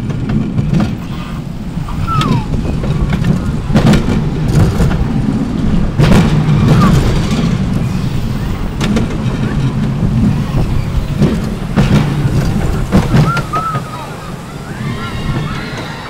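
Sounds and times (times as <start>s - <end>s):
roller coaster rumbling on track: 0.0s - 16.0s
wind on microphone: 0.0s - 16.0s.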